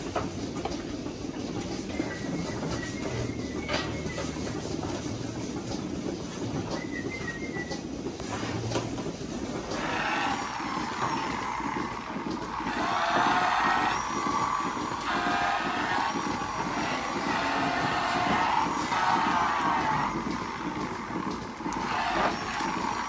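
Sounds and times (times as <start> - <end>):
machinery rumbling: 0.0 - 23.0
wavering machine whirr: 1.0 - 23.0.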